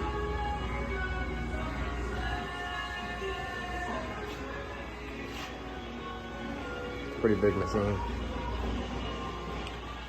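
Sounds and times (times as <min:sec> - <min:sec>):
background music with low bass: 0:00.0 - 0:10.0.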